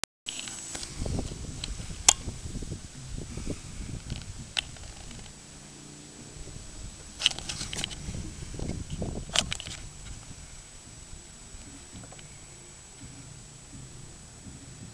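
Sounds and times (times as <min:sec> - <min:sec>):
car engine idling: 0:00.7 - 0:14.9.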